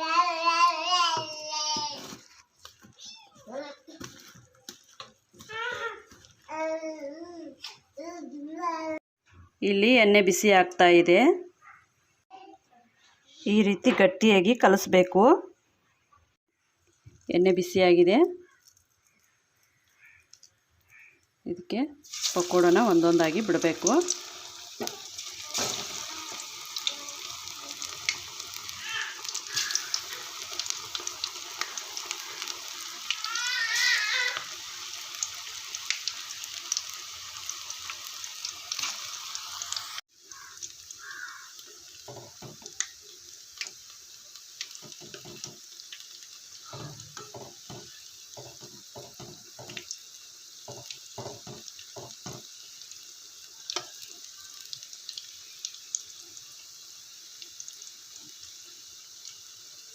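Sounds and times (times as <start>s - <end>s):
food sizzling in hot oil: 0.0s - 6.5s, 16.5s - 59.9s.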